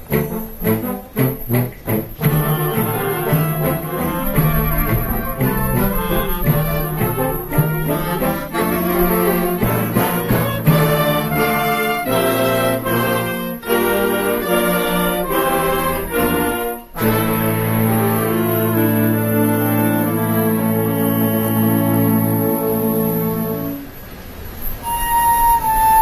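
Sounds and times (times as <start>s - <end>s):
wind band playing: 0.0s - 26.0s.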